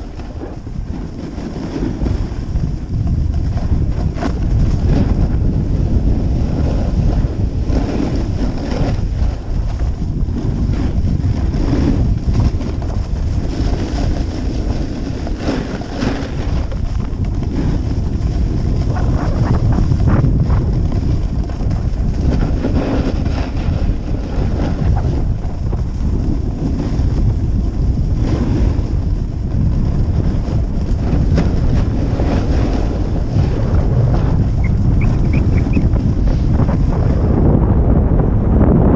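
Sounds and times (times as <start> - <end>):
ski edges scraping on snow: 0.0 - 37.2
wind buffeting microphone: 0.0 - 38.9.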